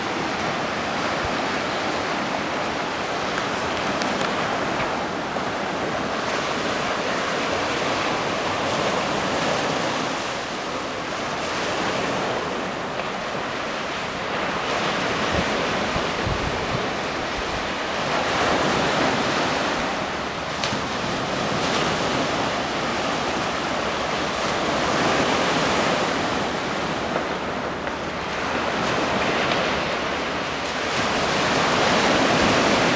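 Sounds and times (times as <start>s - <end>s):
ocean surf breaking: 0.0s - 32.9s
wind buffeting microphone: 0.0s - 32.9s.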